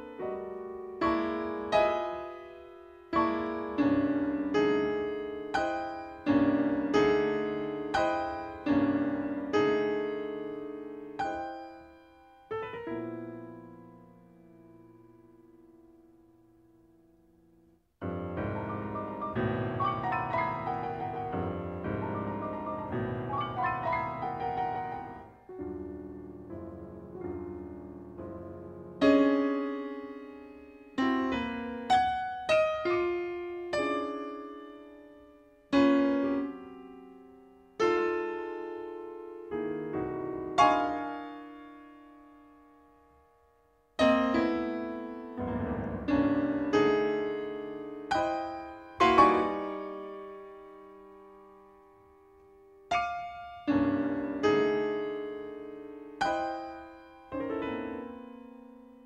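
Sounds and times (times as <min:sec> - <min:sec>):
solo piano chords and notes: 0:00.0 - 0:59.0.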